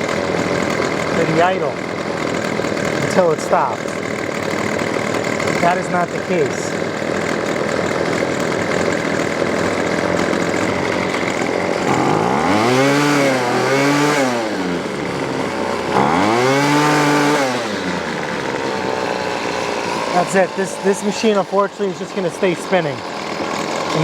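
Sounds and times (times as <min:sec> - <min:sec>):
trimmer engine running and revving: 0:00.0 - 0:24.0.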